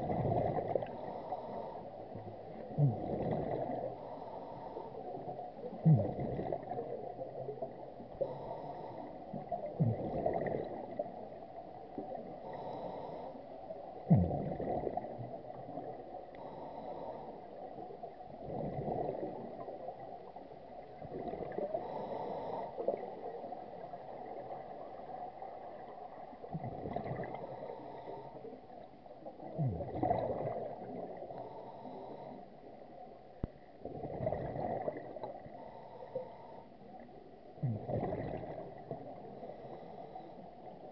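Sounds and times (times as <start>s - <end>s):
exhaled bubbles gurgling underwater: 0.0s - 40.9s.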